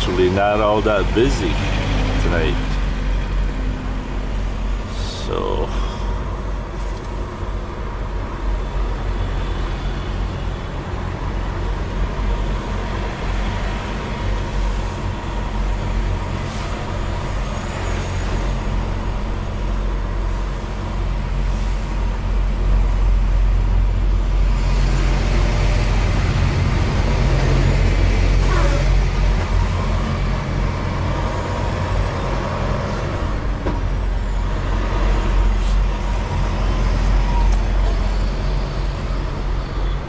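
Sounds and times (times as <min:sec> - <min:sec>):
truck diesel engine humming: 0:00.0 - 0:40.0.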